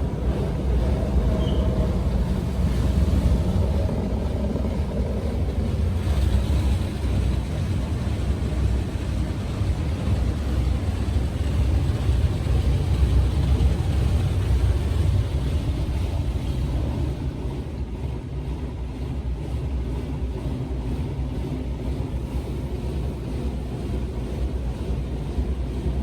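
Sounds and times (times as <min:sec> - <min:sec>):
truck wash low rumble: 0:00.0 - 0:26.0.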